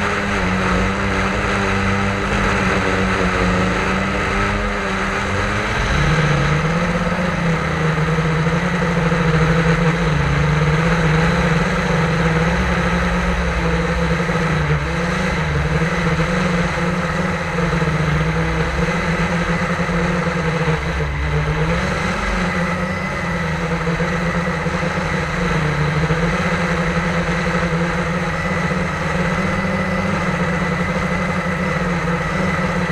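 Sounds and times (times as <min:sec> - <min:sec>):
drone propellers humming: 0:00.0 - 0:32.9.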